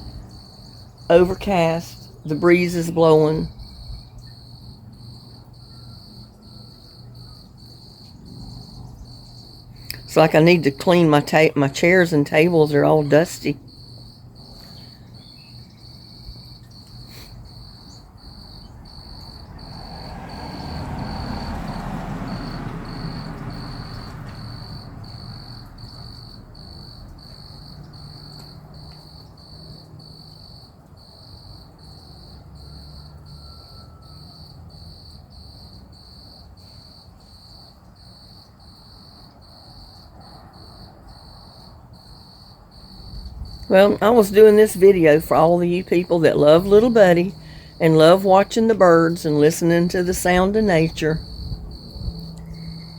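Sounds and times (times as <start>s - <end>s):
insect chorus chirping: 0.0s - 11.8s, 12.4s - 45.7s, 46.6s - 47.9s, 50.3s - 52.9s.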